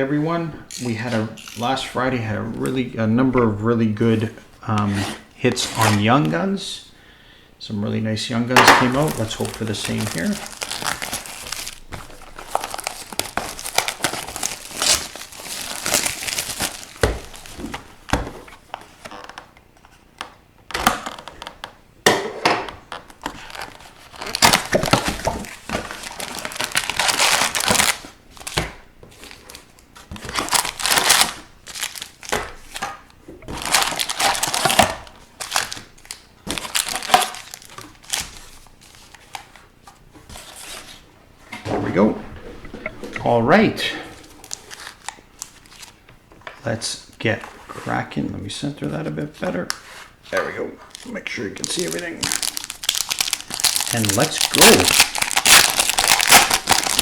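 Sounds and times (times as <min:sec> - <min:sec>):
plastic and foil wrapping crinkling: 0:00.7 - 0:06.3, 0:08.5 - 0:20.0, 0:22.8 - 0:46.1, 0:48.8 - 0:57.0.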